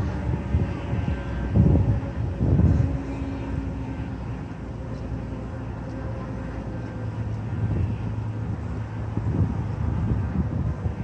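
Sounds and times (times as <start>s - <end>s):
heavy machinery engine drone: 0.0s - 11.0s.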